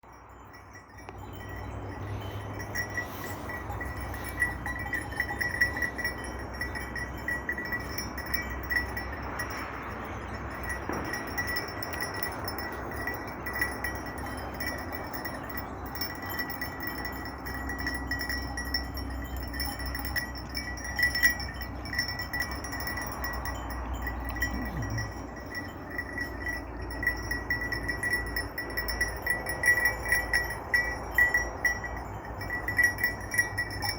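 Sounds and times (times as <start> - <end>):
sheep bells clinking: 0.0 - 33.9.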